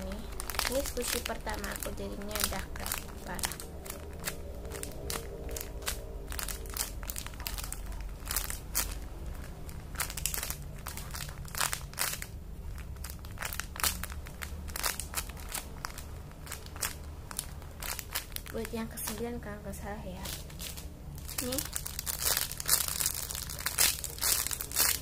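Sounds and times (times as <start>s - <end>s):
squishy toy crinkling and clicking: 0.0s - 19.3s, 20.2s - 25.0s
low steady hum: 0.0s - 25.0s.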